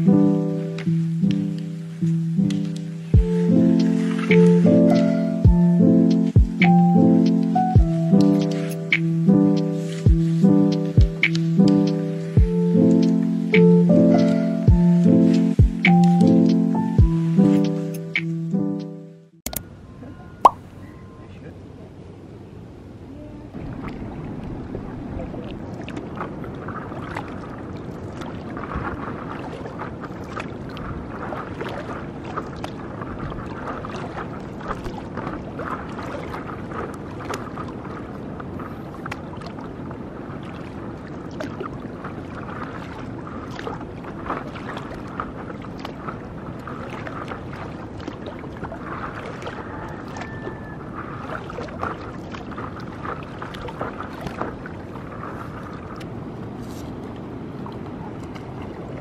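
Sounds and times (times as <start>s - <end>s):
paddle splashes and drips: 0.0s - 18.6s, 23.5s - 59.0s
water splashing and trickling: 0.0s - 59.0s.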